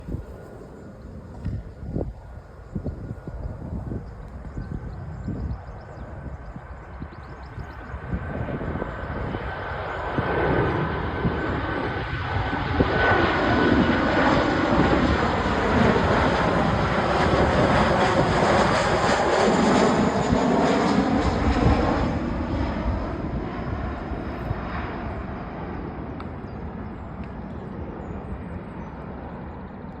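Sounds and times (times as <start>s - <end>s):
jet airliner flying past: 0.0s - 30.0s.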